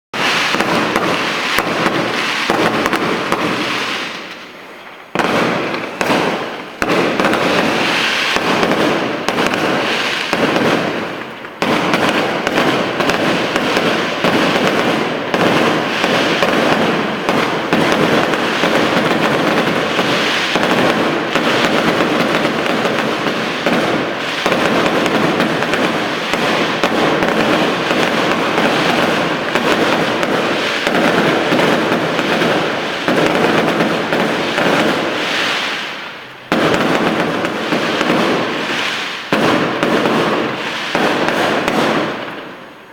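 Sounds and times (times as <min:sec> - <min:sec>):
fireworks bangs and crackling: 0:00.1 - 0:42.9.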